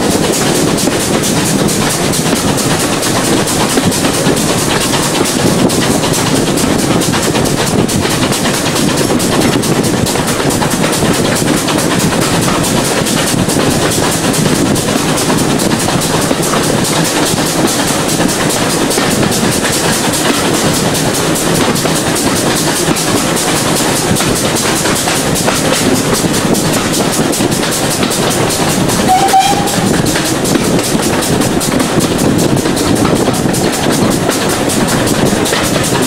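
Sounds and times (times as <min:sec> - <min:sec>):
train wheels clattering on rails: 0:00.0 - 0:36.0.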